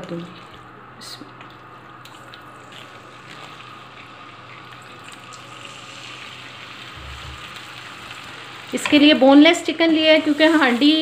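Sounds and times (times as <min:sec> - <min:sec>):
chicken sizzling in hot oil: 0:02.0 - 0:11.0.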